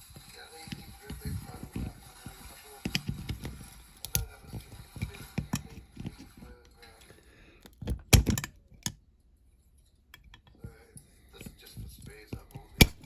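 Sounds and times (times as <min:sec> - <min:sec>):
clicks and knocks of plastic parts: 0:00.0 - 0:09.0, 0:10.1 - 0:10.8, 0:11.4 - 0:13.0.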